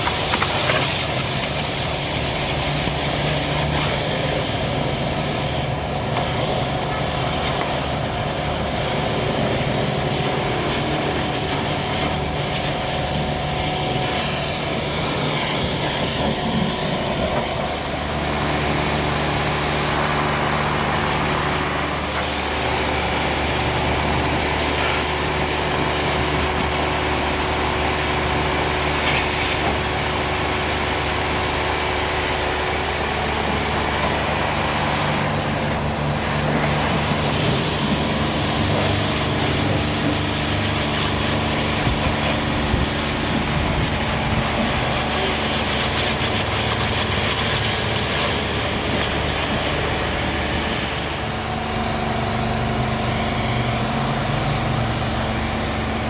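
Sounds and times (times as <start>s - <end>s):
road noise: 0.0s - 56.0s
vehicle engine: 0.0s - 56.0s.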